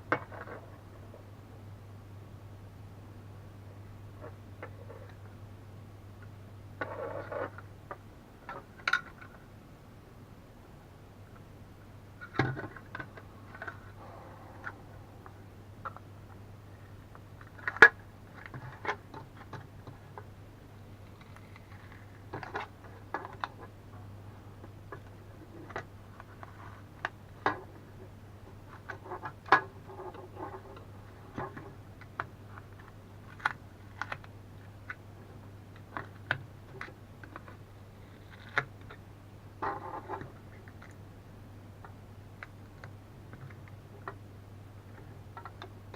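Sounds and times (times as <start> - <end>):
low mains hum: 0.0 - 45.9.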